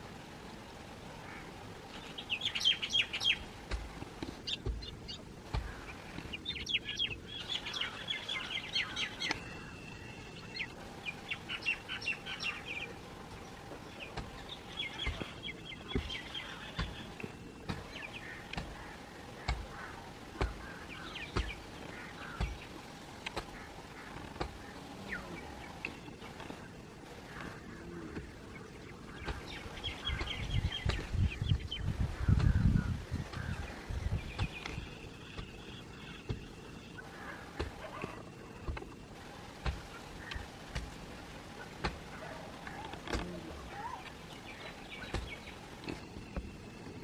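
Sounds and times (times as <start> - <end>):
birds chirping: 0.0 - 47.0
faint steady hum: 0.0 - 47.0.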